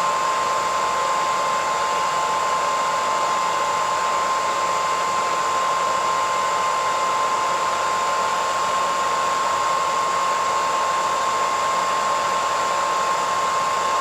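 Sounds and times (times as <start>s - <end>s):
hairdryer running: 0.0s - 14.0s.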